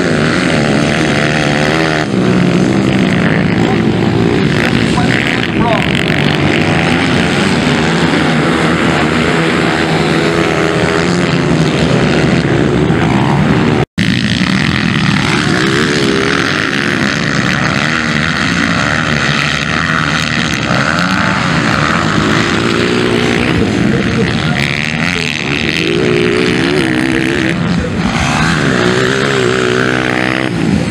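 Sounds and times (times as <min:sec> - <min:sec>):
motocross bikes revving: 0:00.0 - 0:30.9.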